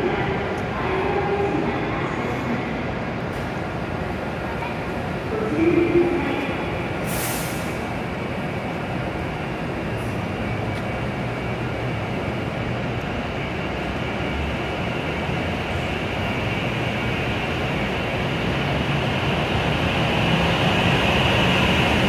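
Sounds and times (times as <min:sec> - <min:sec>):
train running noise: 0:00.0 - 0:22.0.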